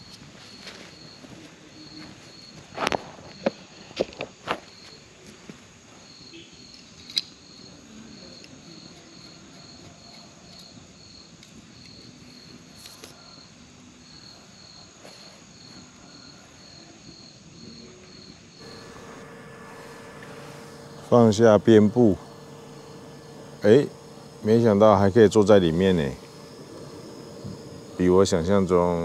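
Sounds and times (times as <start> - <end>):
cricket chirping: 0.0 - 5.2, 5.8 - 29.0.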